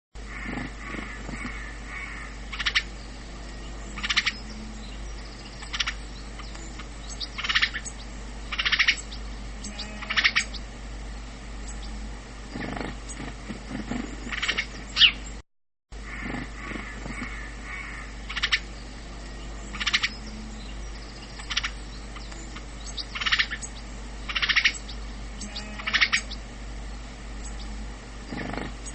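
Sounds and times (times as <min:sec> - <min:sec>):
steady low hum: 0:00.2 - 0:28.9
sparrow chirping: 0:00.4 - 0:15.4, 0:16.2 - 0:26.4, 0:27.4 - 0:28.9.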